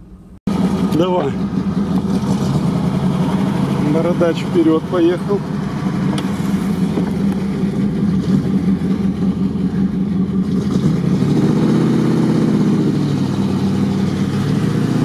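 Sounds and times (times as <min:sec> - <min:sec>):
off-road vehicle engine revving: 0:00.5 - 0:15.0.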